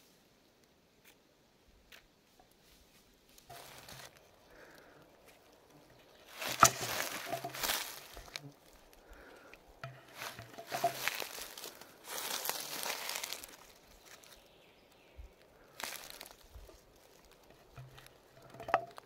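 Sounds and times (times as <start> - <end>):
vegetation rustling and crunching: 1.9 - 19.0.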